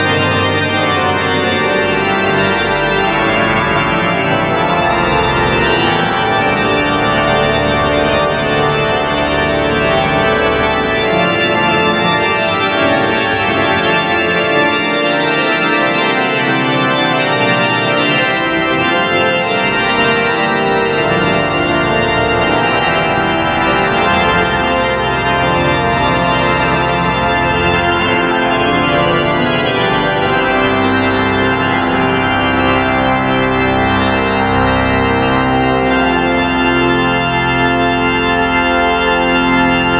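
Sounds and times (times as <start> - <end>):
organ playing: 0.0 - 39.9.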